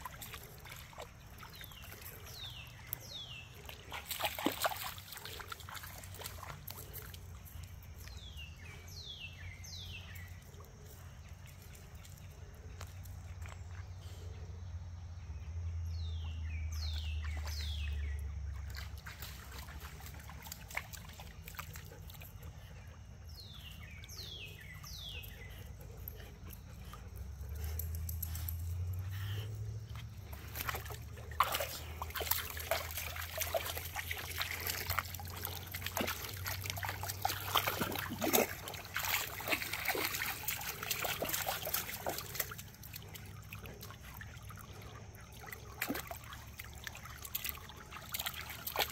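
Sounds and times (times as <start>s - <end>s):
water sloshing and splashing: 0.0s - 8.1s, 17.0s - 48.9s.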